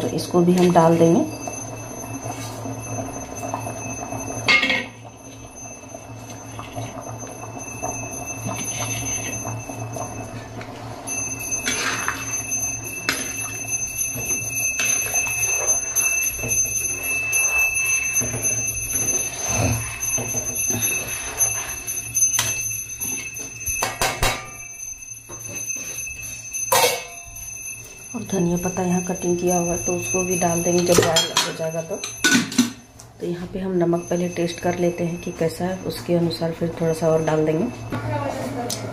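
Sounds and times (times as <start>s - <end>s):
steady high-pitched tone: 0.0s - 38.9s
ladle stirring and knocking pan: 0.5s - 28.0s, 29.0s - 32.8s.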